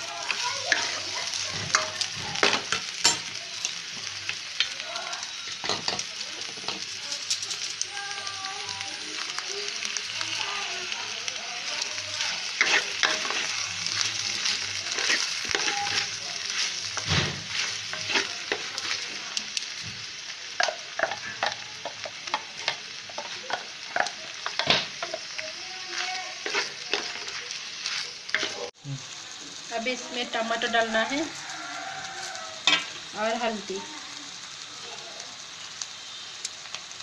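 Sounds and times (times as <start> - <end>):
vegetables sizzling in oil: 0.0 - 37.0.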